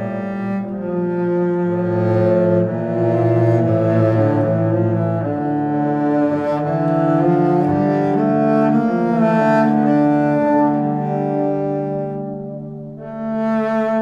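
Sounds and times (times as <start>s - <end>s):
bowed strings music: 0.0s - 14.0s.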